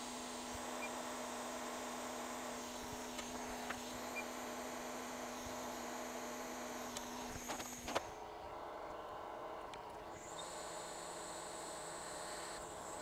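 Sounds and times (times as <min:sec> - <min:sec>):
electric hum with high whine: 0:00.0 - 0:13.0.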